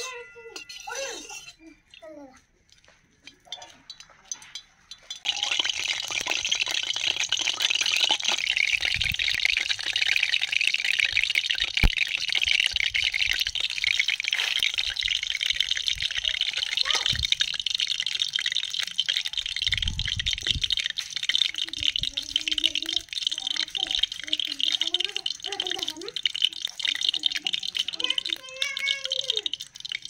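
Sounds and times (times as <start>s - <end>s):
oil sizzling in a wok: 3.3s - 30.0s.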